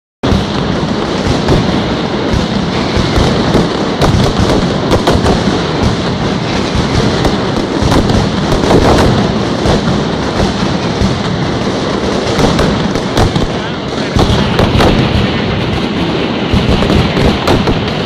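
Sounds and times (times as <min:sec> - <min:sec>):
firecrackers going off in rapid fire: 0:00.2 - 0:18.0.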